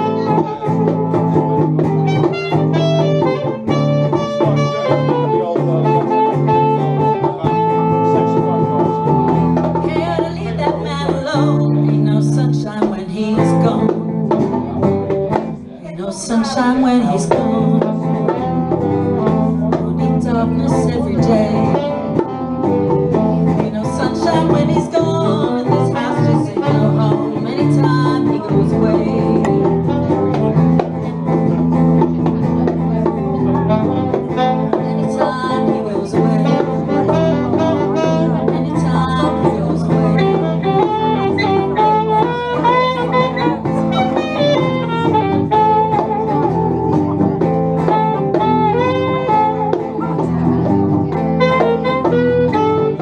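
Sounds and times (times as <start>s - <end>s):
saxophone melody: 0.0s - 10.5s, 20.4s - 53.0s
guitar accompaniment: 0.0s - 53.0s.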